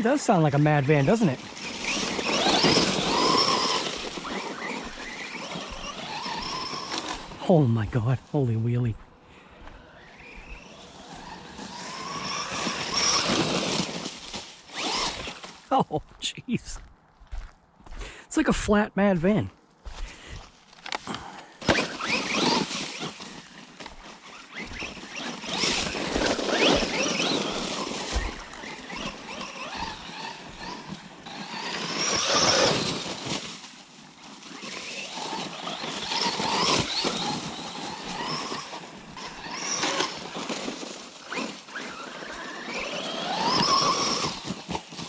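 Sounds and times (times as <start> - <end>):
electric motor whining: 0.0 - 7.5, 9.5 - 15.6, 20.8 - 45.0
tyres rushing: 0.0 - 7.6, 10.0 - 15.8, 21.0 - 45.0.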